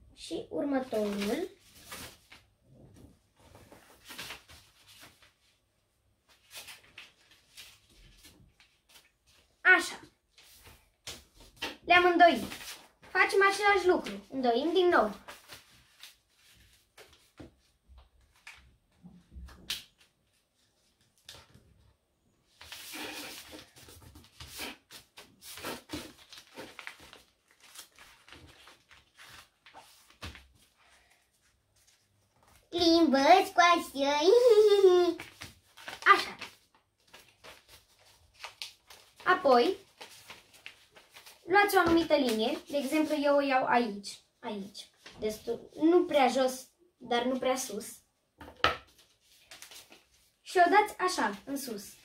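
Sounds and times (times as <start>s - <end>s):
paper rustling as folded: 0.6s - 5.6s, 6.2s - 18.8s, 19.4s - 21.9s, 22.5s - 46.2s, 48.8s - 52.0s.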